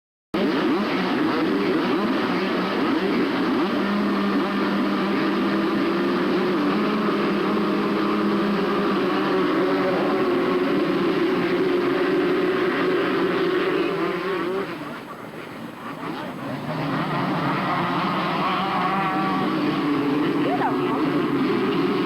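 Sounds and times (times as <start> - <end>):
motocross bikes buzzing engines: 0.4 - 22.0.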